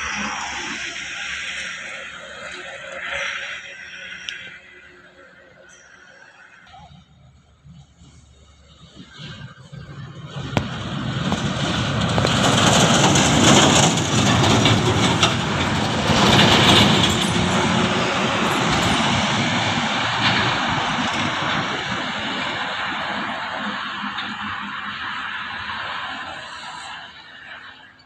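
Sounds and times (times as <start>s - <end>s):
heavy truck engine and road noise: 0.0s - 28.0s.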